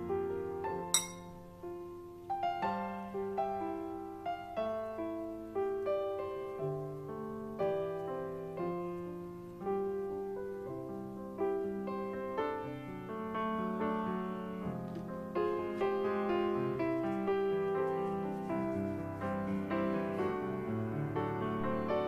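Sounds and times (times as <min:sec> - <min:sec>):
slow solo piano: 0:00.0 - 0:22.0.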